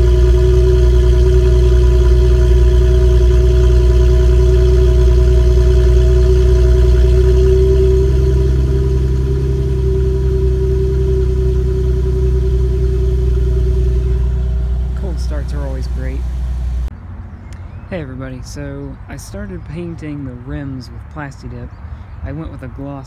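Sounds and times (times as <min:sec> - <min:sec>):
car exhaust idling: 0:00.0 - 0:21.2.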